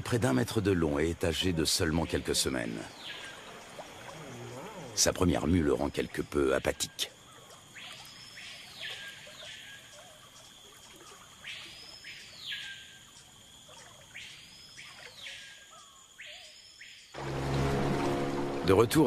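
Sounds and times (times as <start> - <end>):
high insect hum: 0.0 - 19.0.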